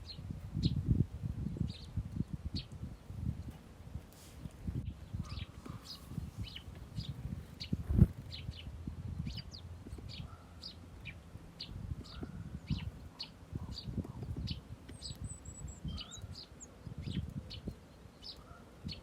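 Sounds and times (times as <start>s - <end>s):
small songbirds chirping: 0.0s - 19.0s.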